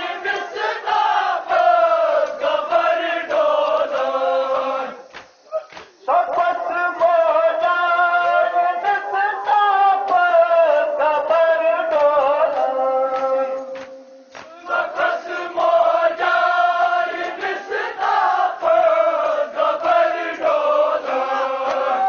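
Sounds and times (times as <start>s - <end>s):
group chanting in unison: 0.0s - 22.0s
rhythmic chest slaps: 0.0s - 22.0s.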